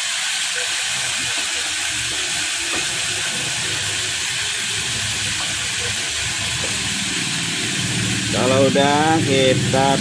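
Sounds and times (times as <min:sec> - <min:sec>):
oil sizzling: 0:00.0 - 0:10.0.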